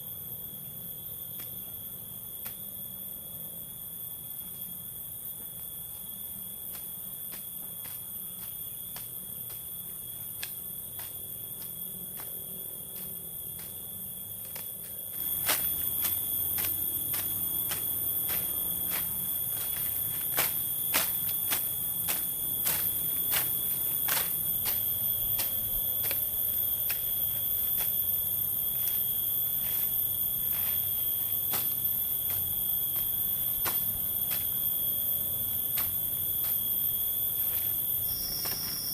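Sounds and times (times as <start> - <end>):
insects droning and clicking: 0.0 - 38.9.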